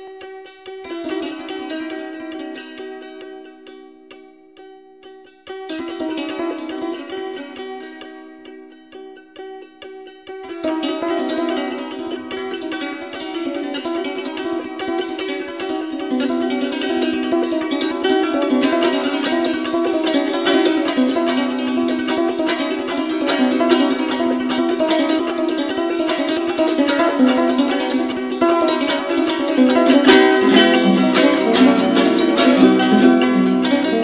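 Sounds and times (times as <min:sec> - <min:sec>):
plucked string folk melody: 0:00.0 - 0:34.0.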